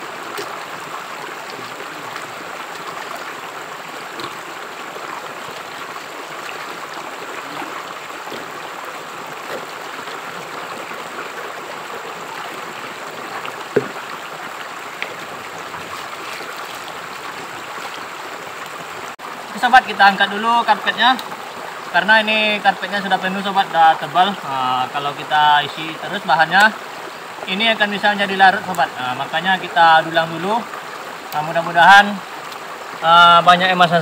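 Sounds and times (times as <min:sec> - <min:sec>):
stream babbling over rocks: 0:00.0 - 0:34.0.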